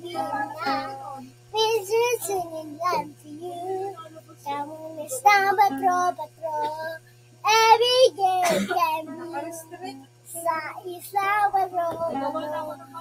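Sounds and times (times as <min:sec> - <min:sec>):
boy singing alone: 0:00.0 - 0:13.0.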